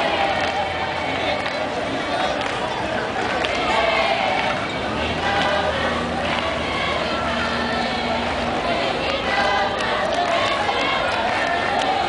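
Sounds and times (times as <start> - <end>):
group singing together: 0.0 - 12.0.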